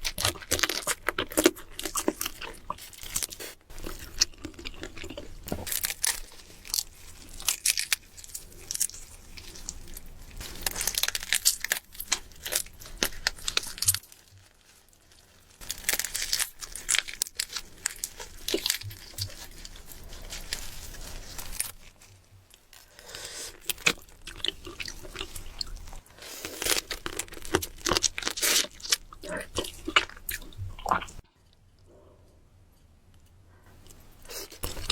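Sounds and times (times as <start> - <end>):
chewing crunchy food: 0.0 - 32.0, 33.7 - 34.9.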